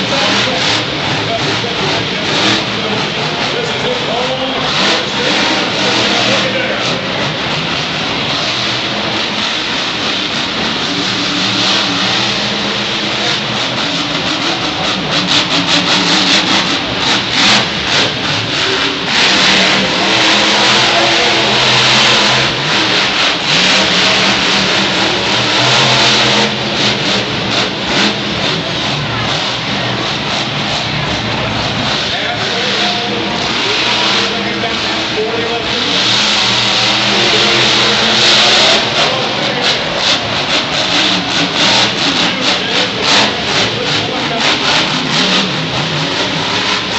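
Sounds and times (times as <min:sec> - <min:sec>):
monster truck engine revving: 0:00.0 - 0:46.9.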